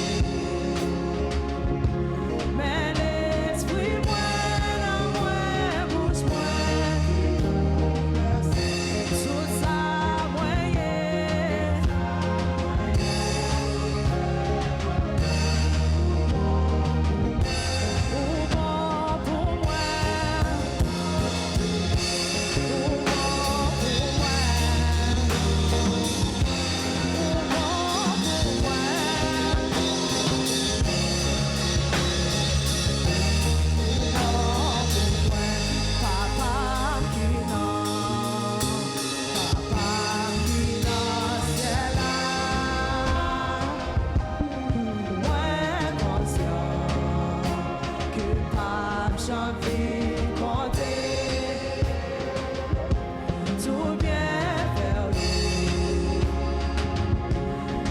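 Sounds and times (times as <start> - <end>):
live band music: 0.0 - 57.9
person singing: 0.0 - 57.9.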